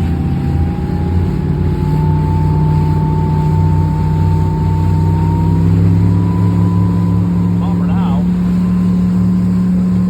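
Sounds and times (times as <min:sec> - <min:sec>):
motorboat engine whining: 0:00.0 - 0:10.0.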